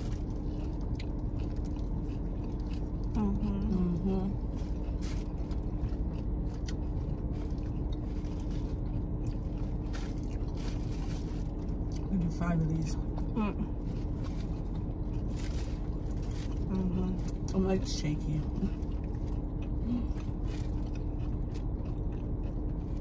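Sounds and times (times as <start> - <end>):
biting and chewing: 0.0 - 23.0
steady low hum: 0.0 - 23.0.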